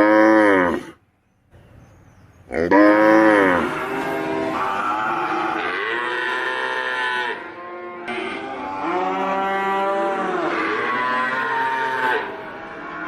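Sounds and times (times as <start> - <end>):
cattle mooing: 0.0 - 1.0, 2.5 - 13.0.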